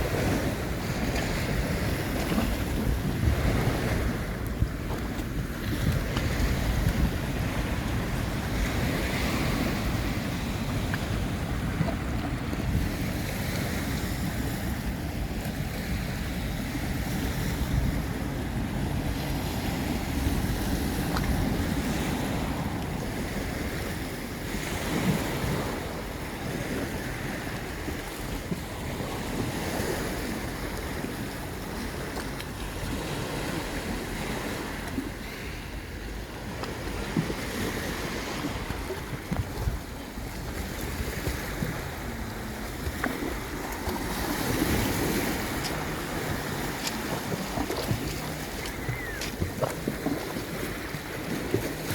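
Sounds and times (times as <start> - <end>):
sea waves washing onto shore: 0.0 - 51.9
wind buffeting microphone: 0.0 - 51.9.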